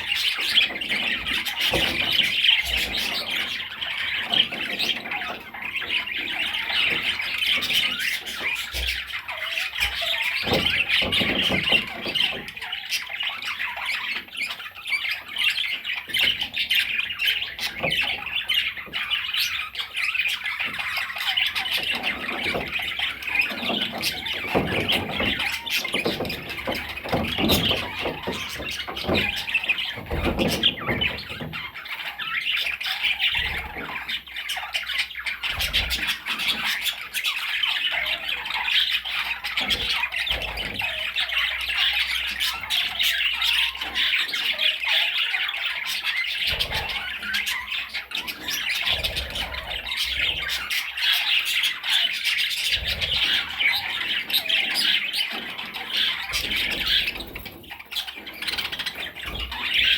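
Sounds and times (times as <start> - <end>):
budgerigar chattering: 0.0 - 59.9.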